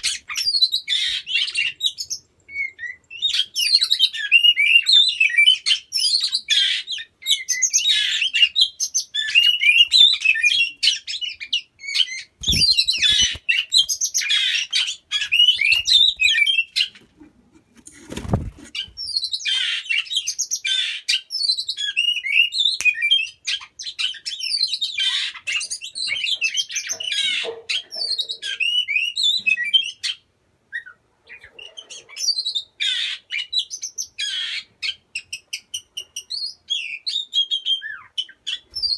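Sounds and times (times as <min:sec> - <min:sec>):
bird singing chirps and whistles: 0:00.2 - 0:16.9, 0:18.8 - 0:26.8, 0:30.8 - 0:38.9.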